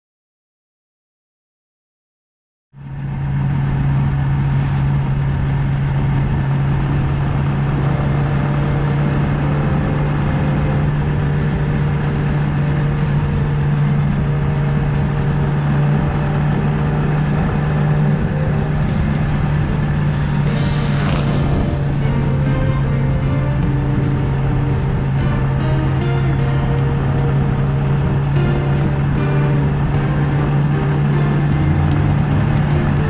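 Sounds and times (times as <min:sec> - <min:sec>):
vehicle engine running: 0:02.8 - 0:33.0
wind and road noise: 0:02.8 - 0:33.0.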